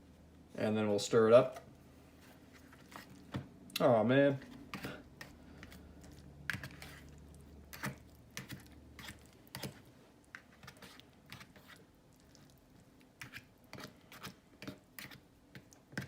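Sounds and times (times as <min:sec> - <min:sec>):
low steady hum: 0:00.0 - 0:16.0
utensil stirring food in a bowl: 0:01.4 - 0:16.0.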